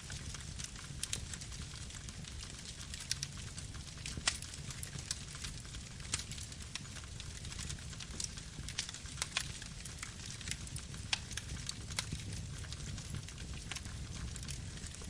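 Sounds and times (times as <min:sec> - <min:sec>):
campfire flames rumbling: 0:00.0 - 0:15.0
wood crackling and popping: 0:00.0 - 0:15.0.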